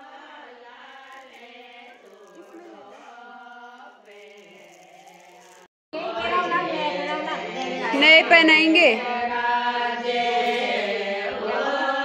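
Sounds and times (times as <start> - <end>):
voices singing slow chant: 0.0 - 12.0.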